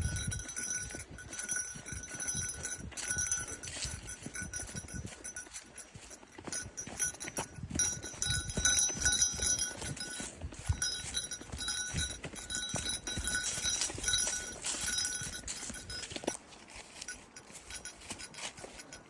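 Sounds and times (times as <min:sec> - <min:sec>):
faint high jingle: 0:00.0 - 0:19.0
footsteps on a trail: 0:00.0 - 0:19.0.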